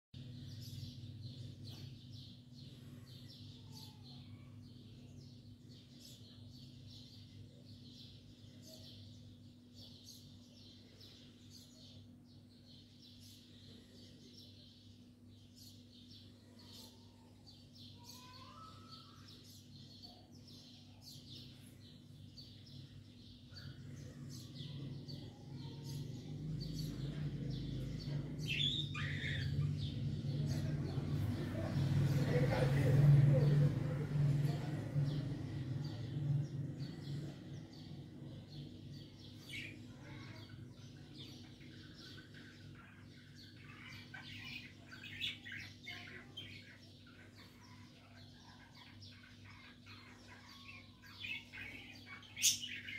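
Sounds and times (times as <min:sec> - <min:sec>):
birds chirping: 0:00.1 - 0:52.9.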